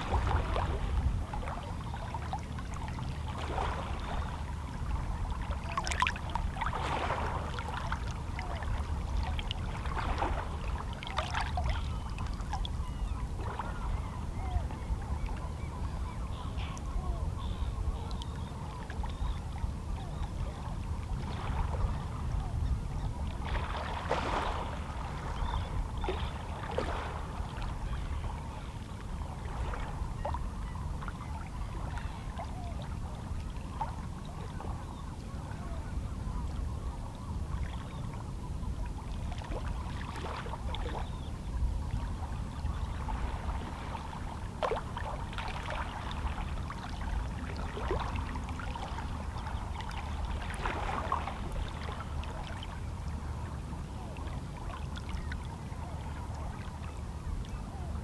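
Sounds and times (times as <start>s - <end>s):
low wash of water: 0.0s - 16.0s, 16.7s - 58.0s.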